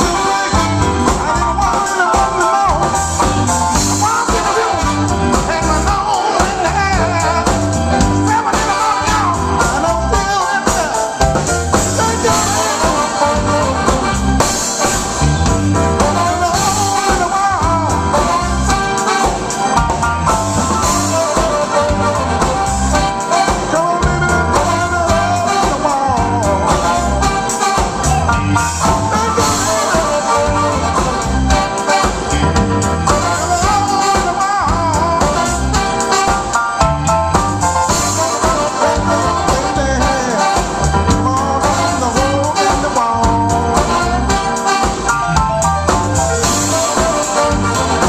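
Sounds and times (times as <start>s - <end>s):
electric bass: 0.0s - 10.4s, 11.2s - 19.0s, 19.6s - 48.0s
man singing: 0.0s - 15.0s, 15.7s - 48.0s
horn section: 0.0s - 48.0s.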